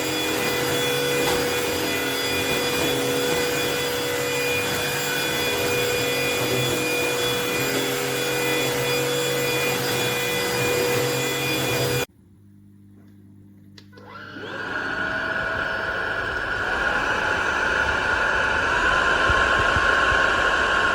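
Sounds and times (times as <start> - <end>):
vacuum cleaner running: 0.0 - 12.1, 13.8 - 20.9.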